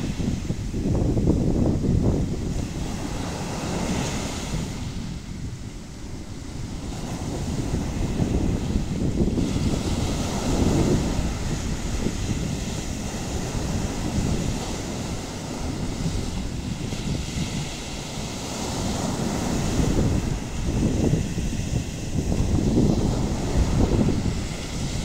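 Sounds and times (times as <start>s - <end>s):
waves breaking on a beach: 0.0s - 25.0s.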